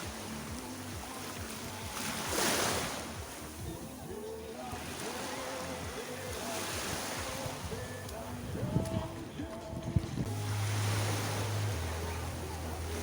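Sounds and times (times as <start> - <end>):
wave breaking: 0.0 - 3.7, 4.6 - 13.0
sea surf washing onto beach: 0.0 - 13.0.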